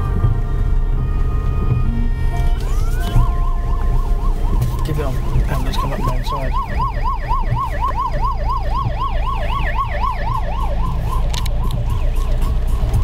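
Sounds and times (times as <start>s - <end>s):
car engine and road rumble: 0.0s - 13.0s
emergency siren yelping: 0.0s - 13.0s.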